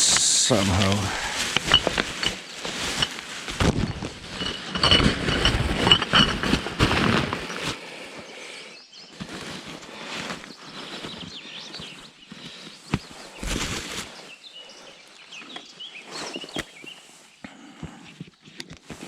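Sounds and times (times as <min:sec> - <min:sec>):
rubbish bag rustling and crinkling: 0:00.0 - 0:08.3, 0:09.0 - 0:17.4.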